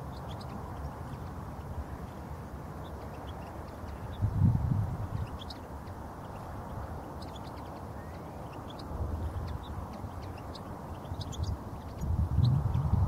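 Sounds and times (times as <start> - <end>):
finches twittering: 0.0 - 13.0
wind rumble on microphone: 0.0 - 13.0.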